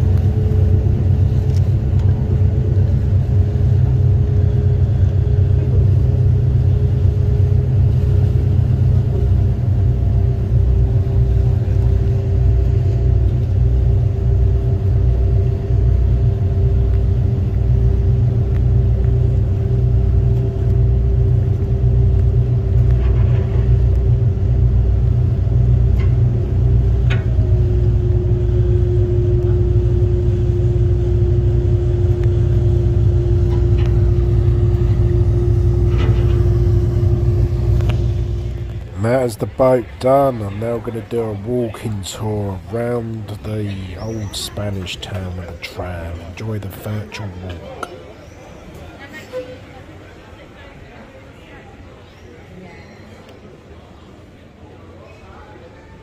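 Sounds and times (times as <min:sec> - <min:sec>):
boat engine droning: 0:00.0 - 0:55.8.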